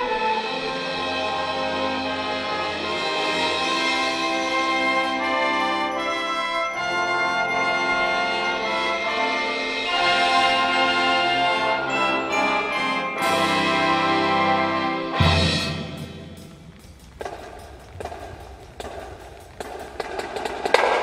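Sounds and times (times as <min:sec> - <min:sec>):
wind band brass chords: 0:00.0 - 0:17.0.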